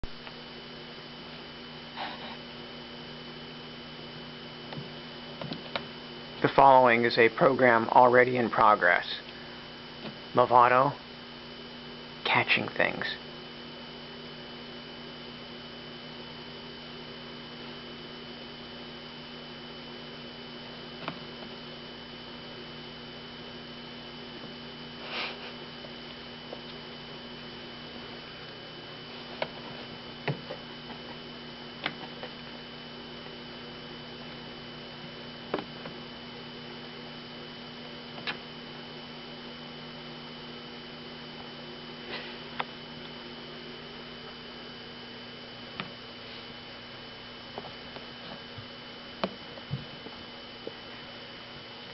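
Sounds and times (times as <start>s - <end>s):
electrical hum: 0.0s - 51.9s.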